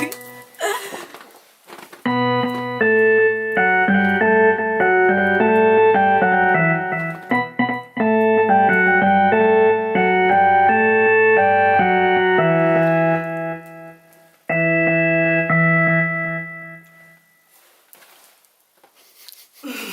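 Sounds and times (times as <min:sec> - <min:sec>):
synthesized electric piano melody: 0:00.0 - 0:00.6, 0:02.0 - 0:17.6.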